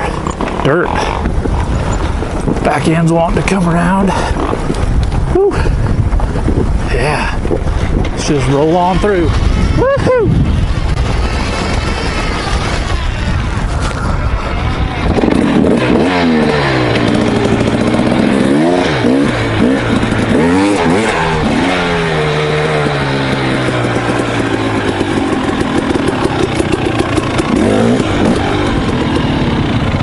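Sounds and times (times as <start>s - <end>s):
two-stroke engine revving: 0.0s - 4.9s, 8.2s - 30.0s.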